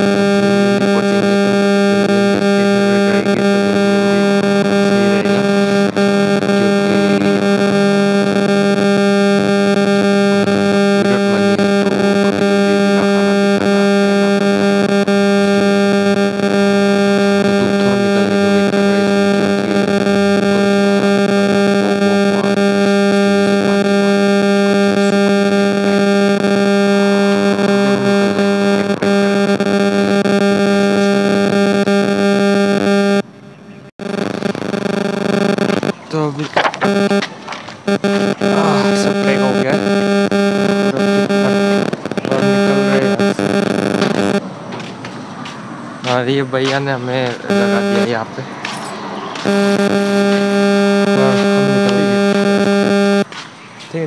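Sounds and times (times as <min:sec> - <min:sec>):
synthesizer drone music: 0:00.0 - 0:35.9, 0:37.8 - 0:44.5, 0:47.5 - 0:53.3.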